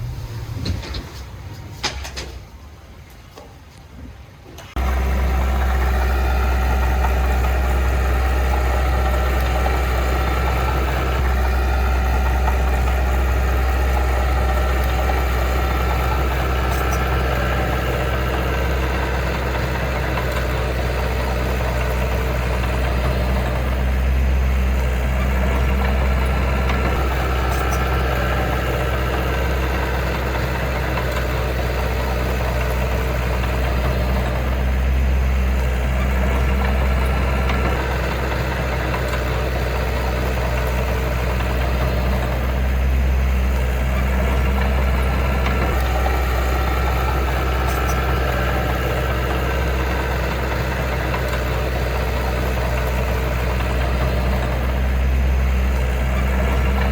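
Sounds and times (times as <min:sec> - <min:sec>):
diesel engine deep rumble: 0:00.0 - 0:56.9.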